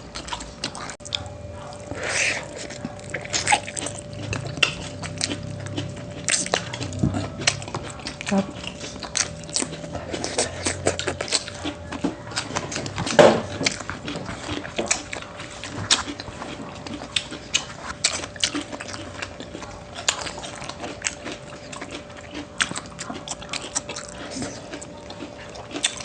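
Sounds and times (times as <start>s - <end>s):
people chewing and mouth smacks: 0.0s - 26.0s.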